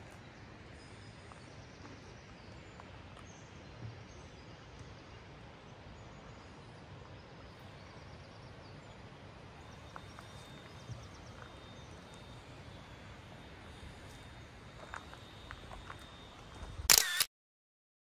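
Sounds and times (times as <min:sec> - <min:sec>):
outdoor background noise: 0:00.0 - 0:17.3.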